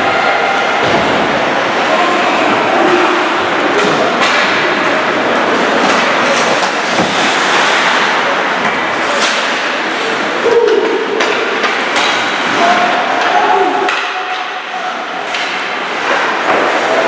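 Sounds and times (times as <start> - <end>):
crowd noise: 0.0 - 17.0
scattered voices: 0.0 - 17.0.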